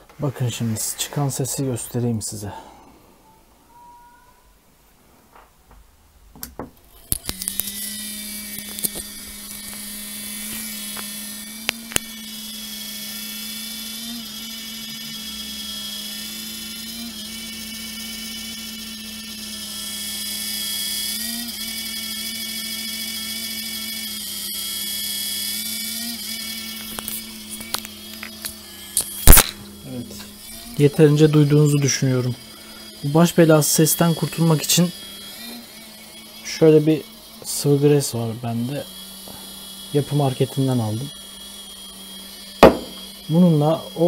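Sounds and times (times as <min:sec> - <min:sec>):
cooling fans whining: 0:06.8 - 0:44.0.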